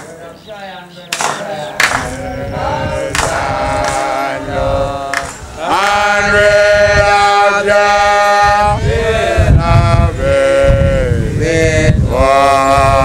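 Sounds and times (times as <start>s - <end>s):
men chanting a hymn: 0.0s - 13.0s.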